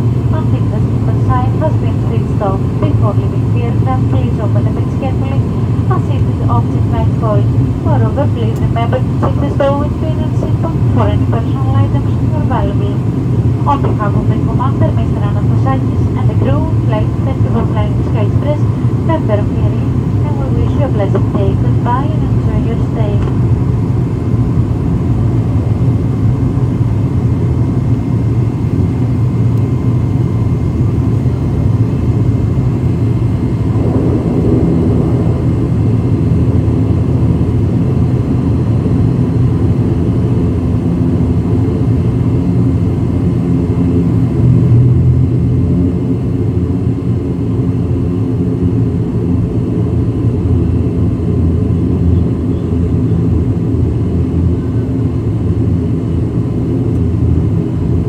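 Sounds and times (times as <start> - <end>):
faint steady whine: 0.0 - 58.0
turboprop engines droning: 0.0 - 58.0.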